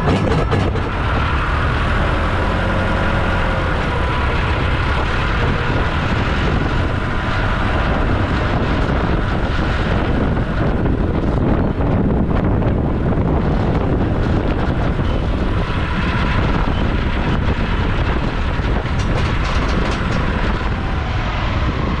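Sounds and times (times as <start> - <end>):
diesel machinery engine rumble: 0.0 - 22.0
steady machine whine: 0.0 - 22.0.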